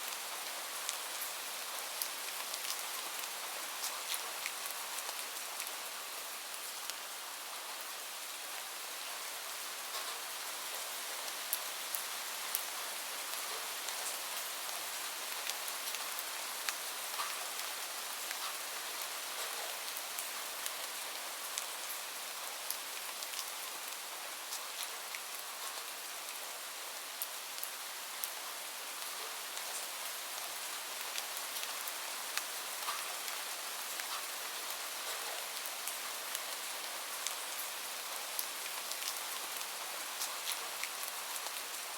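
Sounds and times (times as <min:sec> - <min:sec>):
gentle rain hiss: 0:00.0 - 0:41.9.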